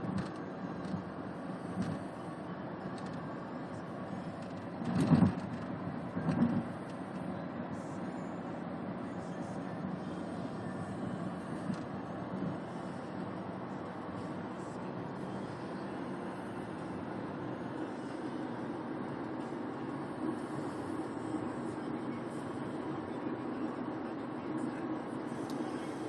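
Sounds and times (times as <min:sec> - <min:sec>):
steady low background noise: 0:00.0 - 0:26.0.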